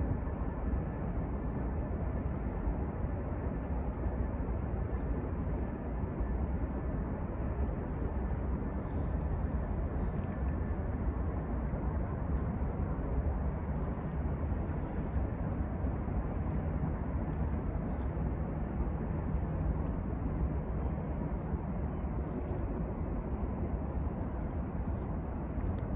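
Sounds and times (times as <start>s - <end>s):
wind noise on microphone: 0.0s - 25.9s.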